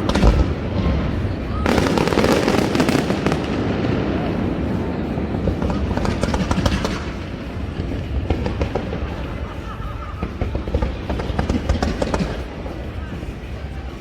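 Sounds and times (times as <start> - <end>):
fireworks bangs and crackling: 0.0 - 14.0
music playing: 0.0 - 14.0.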